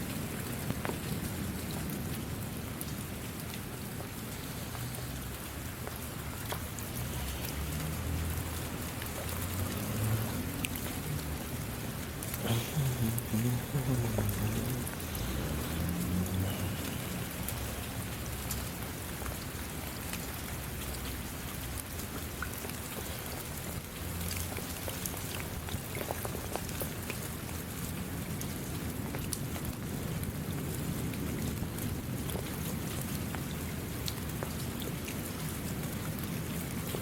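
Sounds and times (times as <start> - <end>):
raindrops ticking close by: 0.0 - 37.0
steady rain: 0.0 - 37.0.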